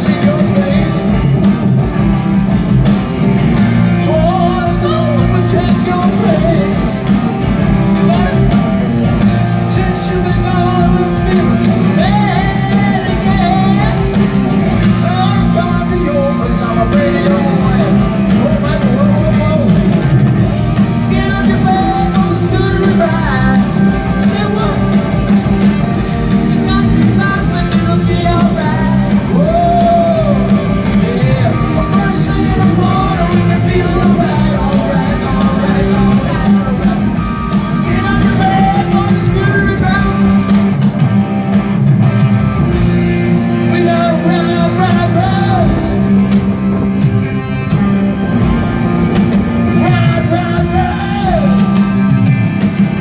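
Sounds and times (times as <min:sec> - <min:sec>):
person singing lead vocal: 0:00.0 - 0:41.1, 0:43.4 - 0:53.0
live rock band playing: 0:00.0 - 0:53.0.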